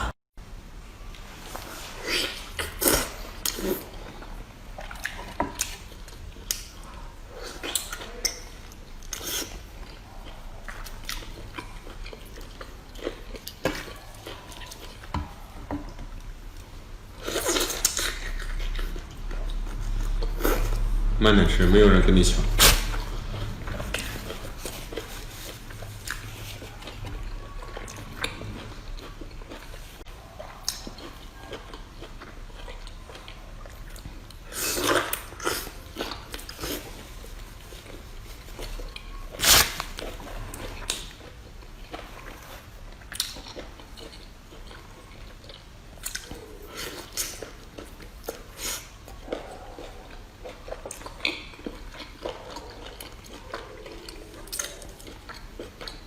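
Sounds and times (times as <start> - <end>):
chewing and biting food: 2.1 - 21.1, 21.7 - 56.0.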